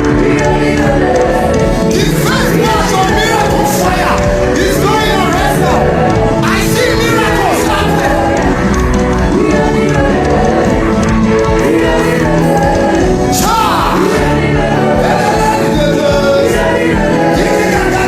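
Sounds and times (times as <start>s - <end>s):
gospel music: 0.0s - 18.0s
person singing: 0.0s - 18.0s.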